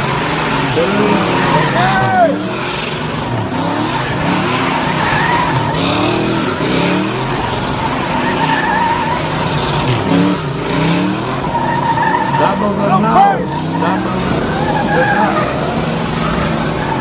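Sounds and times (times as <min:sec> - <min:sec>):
car engine revving: 0:00.0 - 0:17.0
tyres squealing on pavement: 0:00.0 - 0:17.0.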